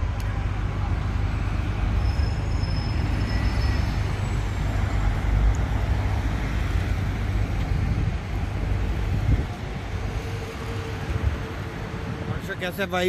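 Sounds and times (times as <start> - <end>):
buses and cars passing: 0.0 - 13.0.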